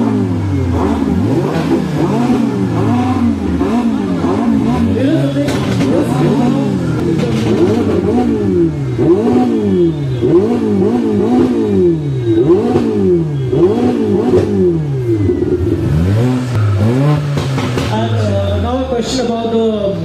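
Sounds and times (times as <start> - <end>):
car engine revving in blips: 0.0 - 20.0.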